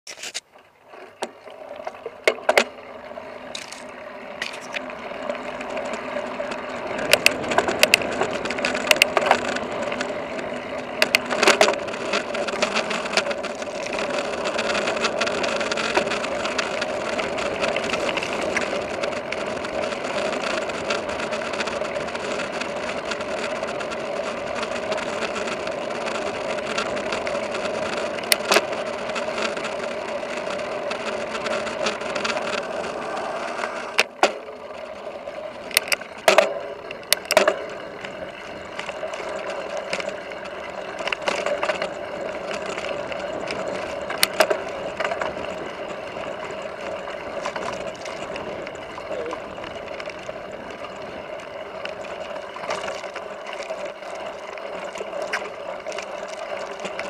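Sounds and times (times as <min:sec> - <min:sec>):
bike clicks and rattles: 0:00.1 - 0:57.0
bike tyres rushing on gravel: 0:00.9 - 0:57.0.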